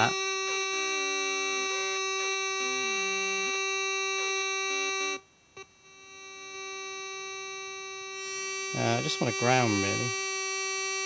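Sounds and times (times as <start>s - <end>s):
steady buzzing tone: 0.0s - 11.0s.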